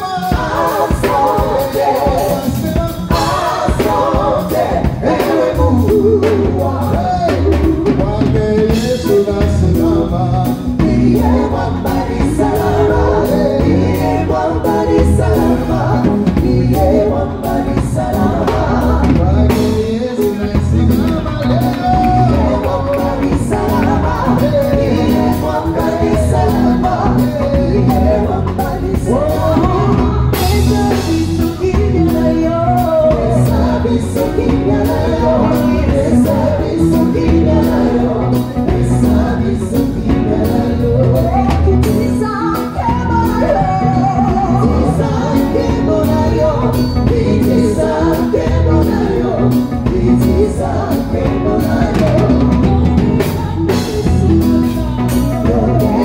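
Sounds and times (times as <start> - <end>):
backing vocals: 0.0 - 56.0
drum kit: 0.0 - 56.0
electric guitars: 0.0 - 56.0
lead singer: 0.0 - 56.0.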